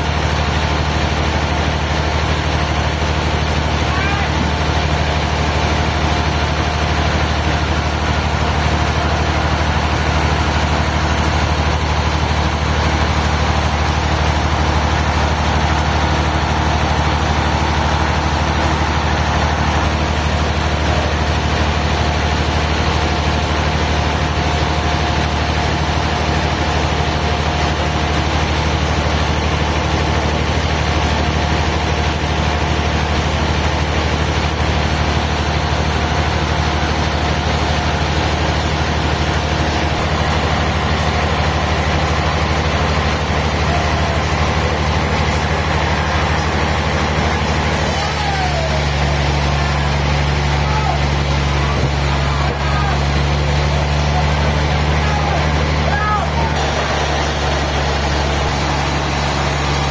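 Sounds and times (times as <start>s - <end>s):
low motor hum: 0.0s - 31.1s, 33.5s - 59.9s.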